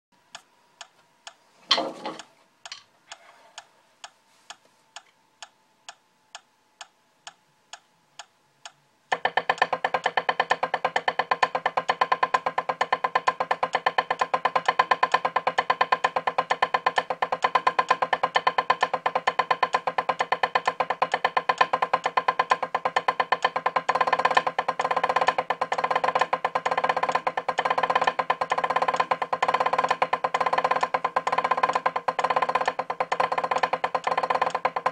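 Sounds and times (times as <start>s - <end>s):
drumsticks on practice pad: 0.3s - 34.9s
metronome clicking: 4.0s - 34.9s.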